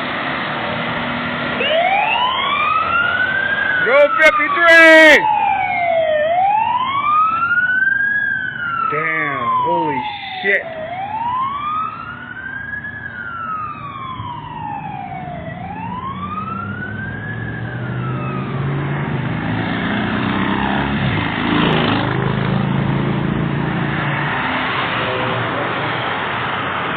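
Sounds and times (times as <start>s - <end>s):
fire engine wail siren: 0.0s - 26.9s.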